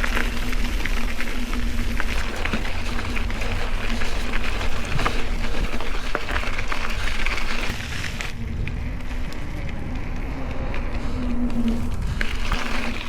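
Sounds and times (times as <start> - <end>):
bike tyres on gravel: 0.0 - 13.0.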